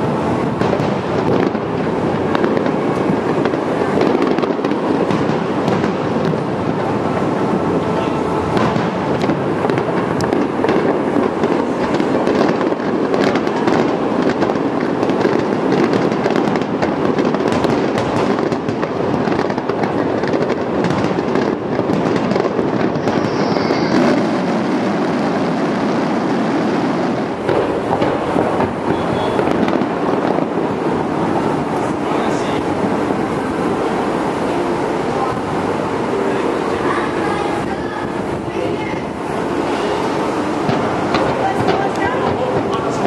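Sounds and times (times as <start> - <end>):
firework shells bursting: 0.0 - 34.2, 39.4 - 43.0.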